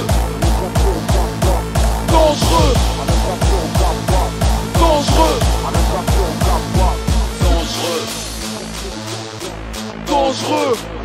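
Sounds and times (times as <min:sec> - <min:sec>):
fast hard electronic dance music: 0:00.0 - 0:11.0.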